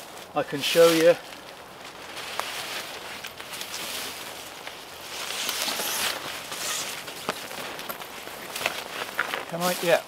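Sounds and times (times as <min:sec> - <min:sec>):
footsteps in leaf litter: 0:00.0 - 0:10.0
tarp fabric rustling: 0:00.0 - 0:10.0.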